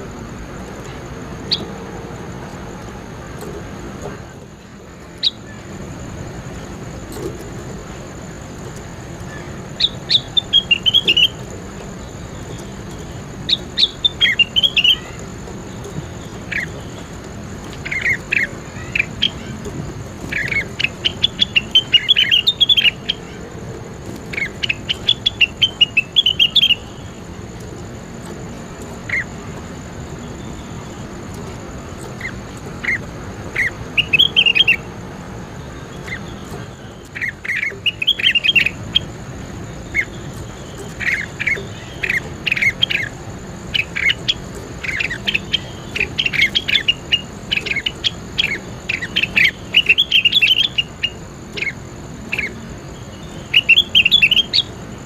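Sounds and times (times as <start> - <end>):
bird chirping and twittering: 0.0 - 55.0.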